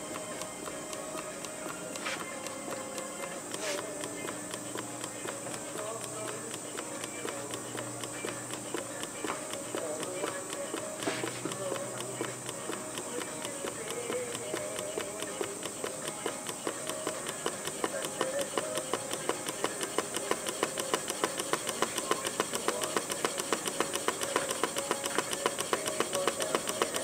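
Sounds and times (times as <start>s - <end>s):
rapid mechanical knocking: 0.0s - 27.0s
steam engine running: 0.0s - 27.0s.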